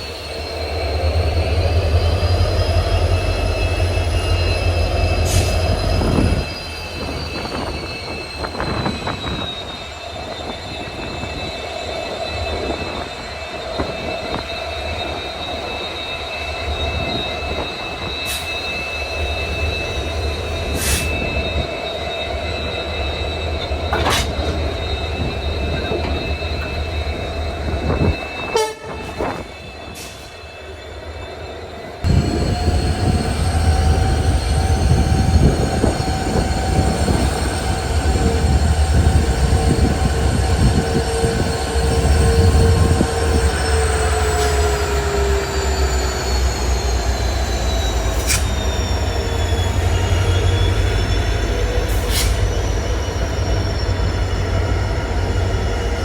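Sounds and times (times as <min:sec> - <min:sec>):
rumble of train coaches: 0:00.0 - 0:56.0
train wheels squealing: 0:00.0 - 0:56.0.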